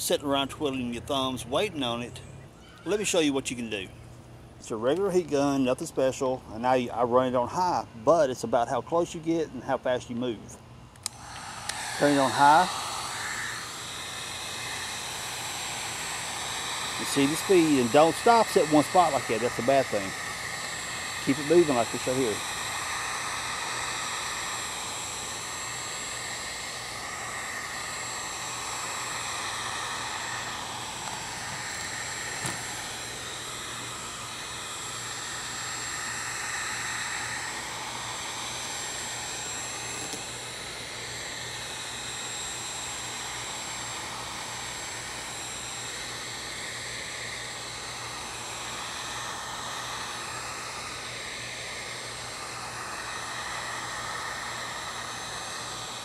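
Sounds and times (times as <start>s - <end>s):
heat gun fan blowing with whine: 0.0s - 56.0s.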